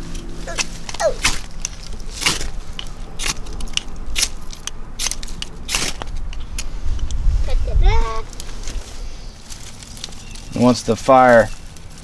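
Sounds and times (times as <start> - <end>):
twigs crackling and snapping: 0.0 - 7.2, 8.2 - 12.0.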